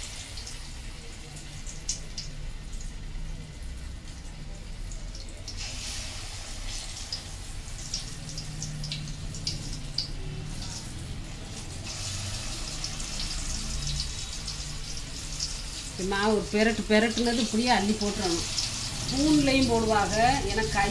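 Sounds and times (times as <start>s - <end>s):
hot oil sizzling and crackling: 0.0s - 20.9s.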